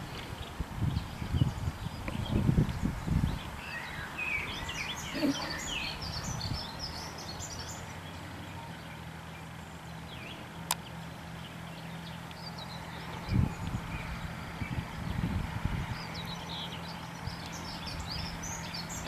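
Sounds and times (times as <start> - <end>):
birds chirping: 0.0 - 19.0
diesel engine running: 0.0 - 19.0.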